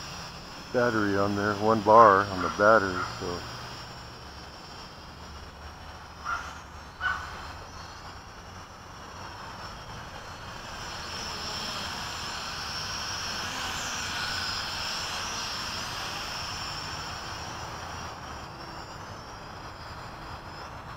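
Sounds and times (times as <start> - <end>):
drone propellers whining: 0.0 - 20.9.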